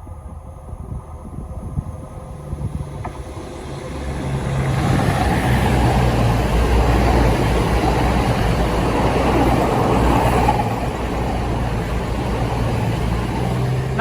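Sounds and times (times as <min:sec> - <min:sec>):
train rumbling on rails: 0:00.0 - 0:14.0
diesel engines droning: 0:00.1 - 0:14.0.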